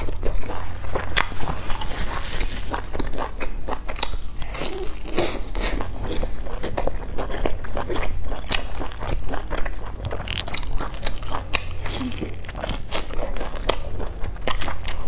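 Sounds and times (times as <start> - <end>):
crunchy fried food being chewed: 0.0 - 15.0.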